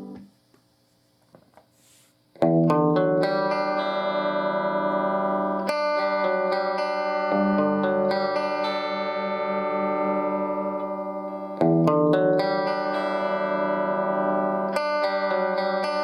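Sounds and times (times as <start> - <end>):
electric guitar chords and notes: 0.0 - 0.3, 2.4 - 16.0.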